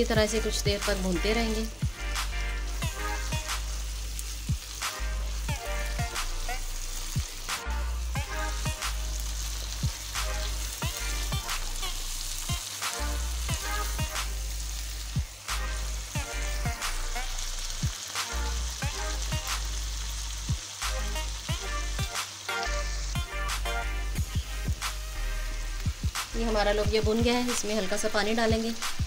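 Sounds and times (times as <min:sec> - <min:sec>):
music with a steady beat: 0:00.0 - 0:27.6, 0:28.5 - 0:29.0
beans sizzling in oil: 0:00.0 - 0:29.0.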